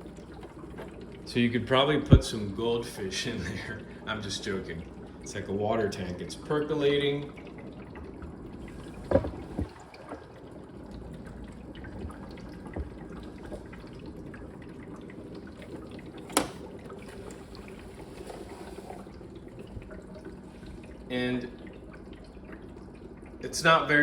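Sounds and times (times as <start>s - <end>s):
faint steady hum: 0.0s - 24.0s
water trickling into tank: 0.0s - 24.0s.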